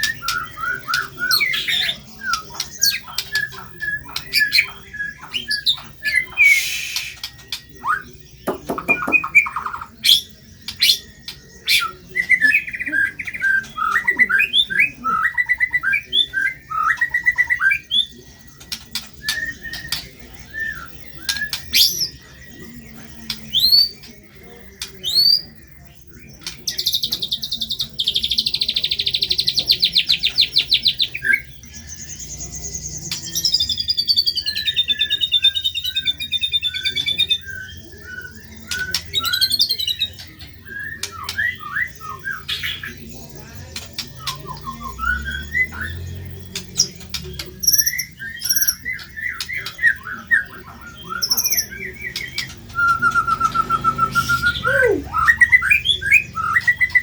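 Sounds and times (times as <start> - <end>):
songbird singing whistles and trills: 0.0 - 57.0.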